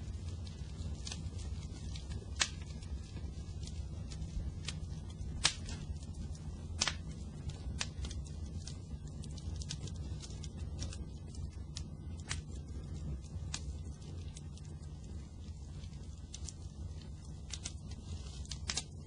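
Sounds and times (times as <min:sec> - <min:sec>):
fire crackling and popping: 0:00.0 - 0:19.0
low rushing burn: 0:00.0 - 0:19.0.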